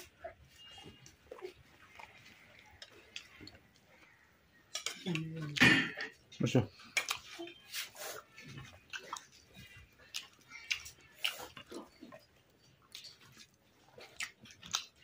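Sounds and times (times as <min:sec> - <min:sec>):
soft wet chewing: 0:00.0 - 0:15.0.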